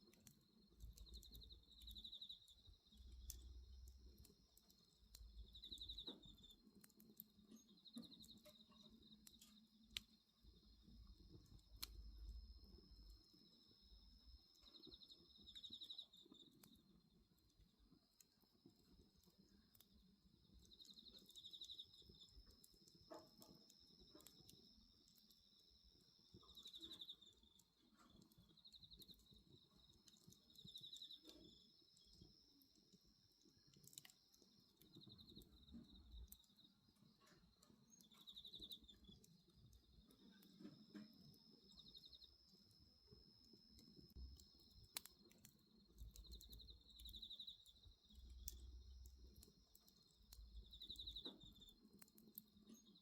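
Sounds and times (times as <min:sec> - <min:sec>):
bonfire crackling and popping: 0:00.0 - 0:53.0
insects trilling: 0:00.0 - 0:53.0
insect pulsing chirp: 0:00.1 - 0:53.0.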